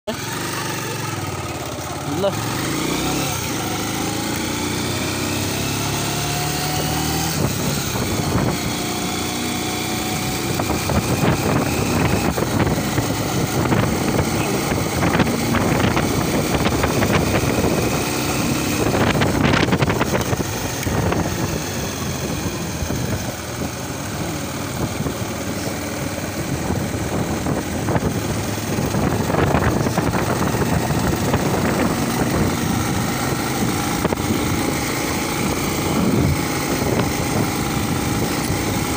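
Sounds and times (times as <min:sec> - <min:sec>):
small motorcycle engine running: 0:00.1 - 0:38.9
wind noise on microphone: 0:05.8 - 0:38.9.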